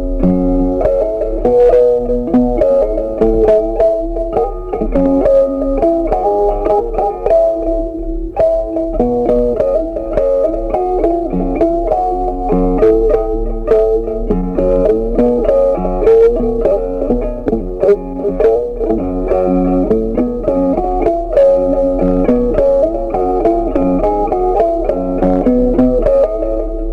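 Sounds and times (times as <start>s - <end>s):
bass line: 0.0s - 26.9s
plucked guitar melody: 0.0s - 26.9s.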